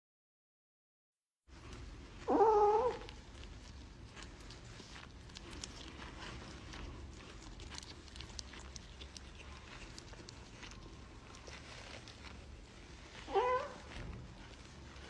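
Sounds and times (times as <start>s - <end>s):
low background rumble: 1.5s - 15.0s.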